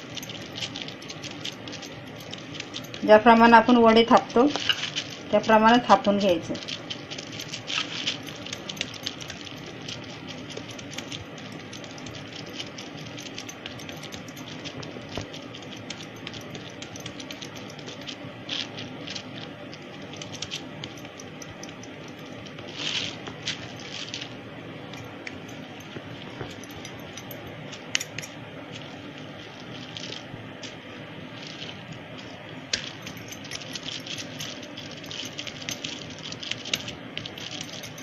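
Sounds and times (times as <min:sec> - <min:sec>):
plastic sheet crinkling: 0:00.0 - 0:38.0.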